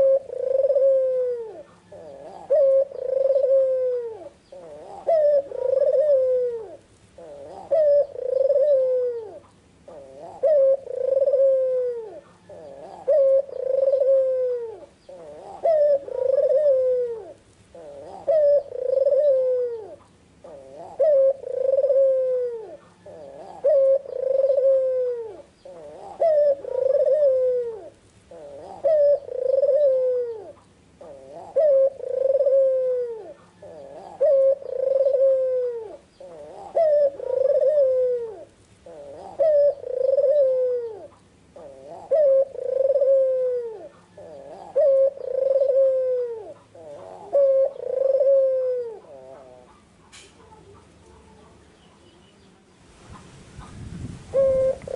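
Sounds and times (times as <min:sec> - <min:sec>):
dove cooing: 0:00.0 - 0:52.2, 0:53.0 - 0:54.9.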